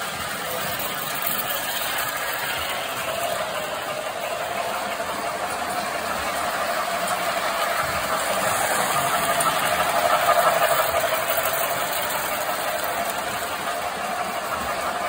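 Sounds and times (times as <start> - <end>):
toy train clattering on metal track: 0.0 - 15.0.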